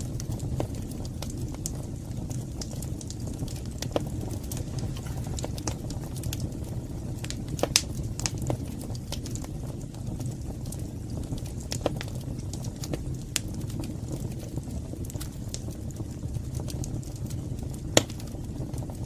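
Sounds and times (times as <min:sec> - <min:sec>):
fire rumbling: 0:00.0 - 0:19.0
wood fire crackles and pops: 0:00.0 - 0:19.0.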